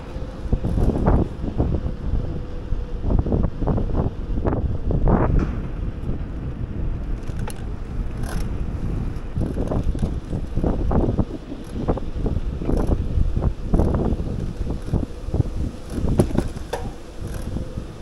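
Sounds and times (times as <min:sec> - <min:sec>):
bike rolling on road: 0:00.0 - 0:18.0
wind buffeting microphone: 0:00.0 - 0:18.0.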